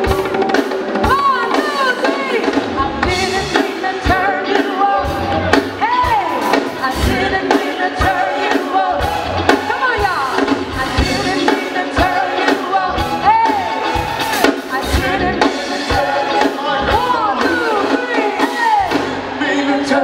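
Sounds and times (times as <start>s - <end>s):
drum beat: 0.0s - 19.4s
bass: 0.0s - 20.0s
woman singing: 0.9s - 20.0s.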